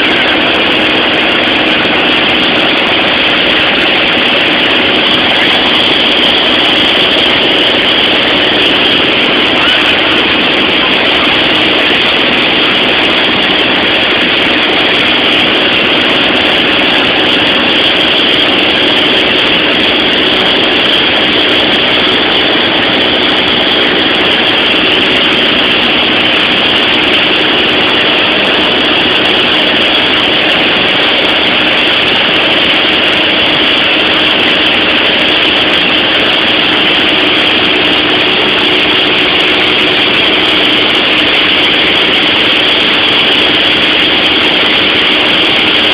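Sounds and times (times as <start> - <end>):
propeller airplane cabin hum: 0.0 - 45.9.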